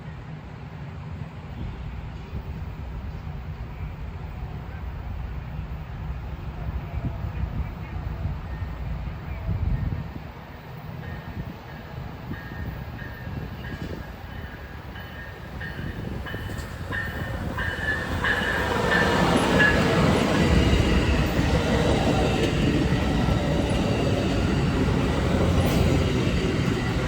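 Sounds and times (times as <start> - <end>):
train passing rumble: 0.0 - 27.0.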